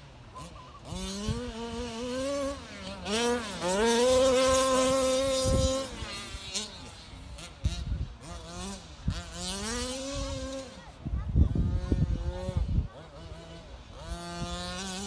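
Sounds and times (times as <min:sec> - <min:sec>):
rc car engine revving: 0:00.0 - 0:15.0.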